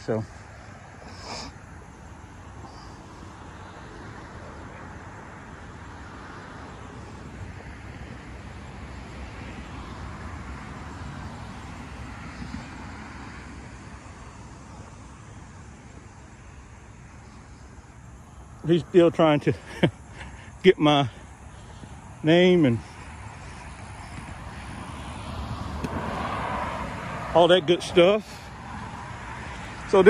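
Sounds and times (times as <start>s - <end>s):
road traffic hum: 0.0s - 30.0s.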